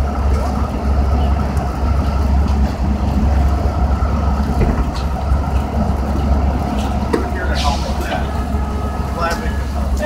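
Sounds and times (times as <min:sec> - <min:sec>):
city street traffic rumble: 0:00.0 - 0:10.0
engines idling: 0:00.0 - 0:10.0.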